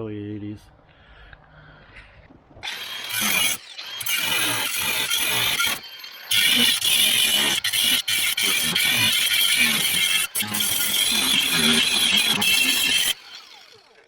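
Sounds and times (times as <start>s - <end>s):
power tool on sheet metal: 2.6s - 14.0s.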